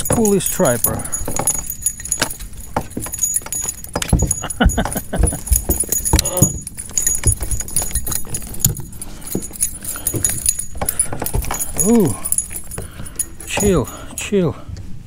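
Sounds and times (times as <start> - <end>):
metallic jingling: 0.0 - 14.7.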